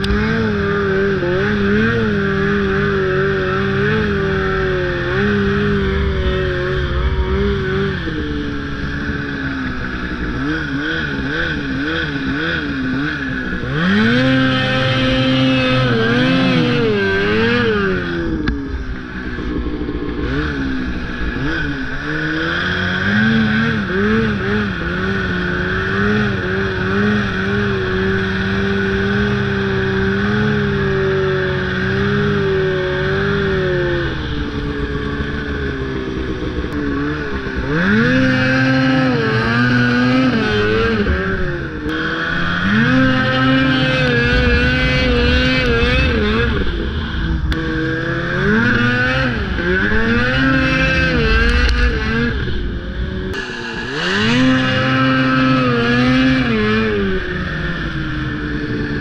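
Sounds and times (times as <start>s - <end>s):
constant rushing noise: 0.0s - 59.0s
snowmobile engine running: 0.0s - 59.0s.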